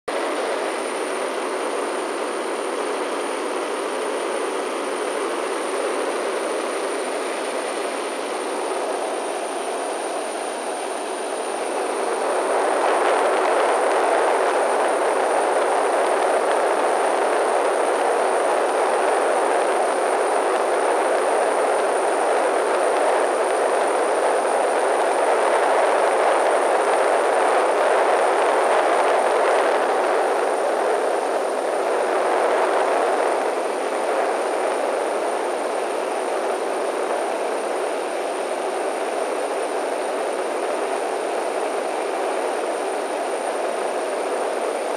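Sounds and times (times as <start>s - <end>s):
airflow over airframe: 0.1s - 44.9s
faint high whine: 0.1s - 44.9s.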